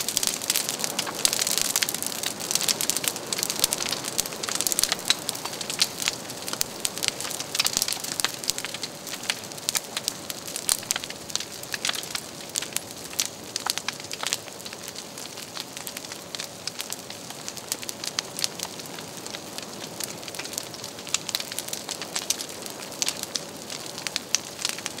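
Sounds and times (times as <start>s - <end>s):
fire crackling and popping: 0.0s - 25.0s
fire hissing: 0.0s - 25.0s.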